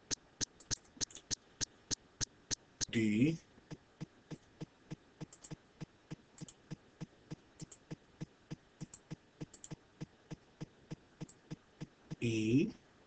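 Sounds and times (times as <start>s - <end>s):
regular ticking: 0.0s - 3.0s, 3.7s - 12.4s
computer mouse clicks: 0.1s - 2.9s, 3.7s - 12.2s.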